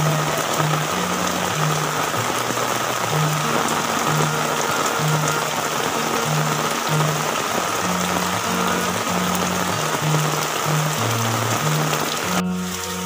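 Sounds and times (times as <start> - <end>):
heavy rain falling: 0.0 - 13.0
music with held low notes: 0.0 - 13.0.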